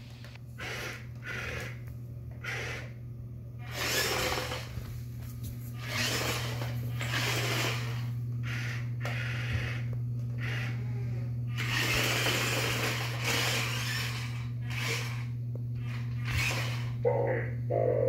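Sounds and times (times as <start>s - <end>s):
toy motors humming: 0.0s - 3.0s, 3.6s - 4.9s, 5.7s - 18.0s.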